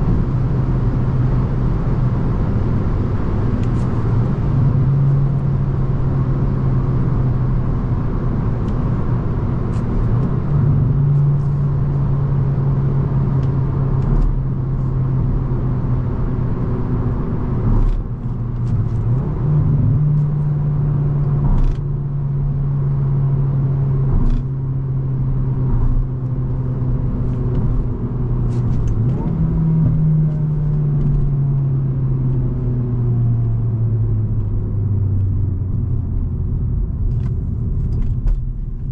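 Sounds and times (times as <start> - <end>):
car engine accelerating: 0.0 - 38.9
road noise: 0.0 - 38.9.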